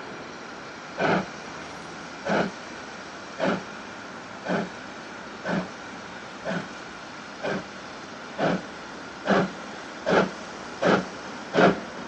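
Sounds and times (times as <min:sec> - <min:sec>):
steam hiss: 0:00.0 - 0:12.0
steam locomotive exhaust chuffs: 0:00.0 - 0:12.0.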